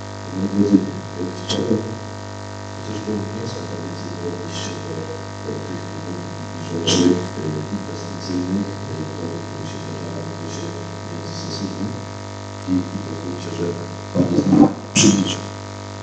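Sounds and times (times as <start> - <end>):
electrical mains hum: 0.0 - 16.0
muffled man talking into microphone: 0.3 - 2.0, 2.8 - 15.5.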